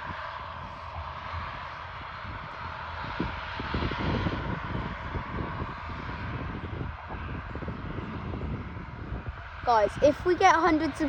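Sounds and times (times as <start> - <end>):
distant turboprop engines droning: 0.0 - 11.0
wind rumble on microphone: 0.0 - 11.0.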